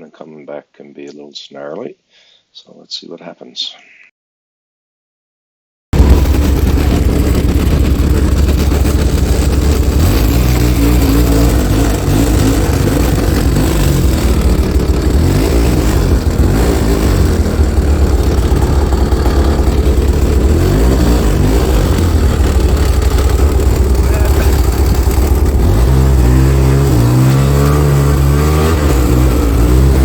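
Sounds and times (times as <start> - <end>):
snowmobile engine under load: 6.0 - 30.0.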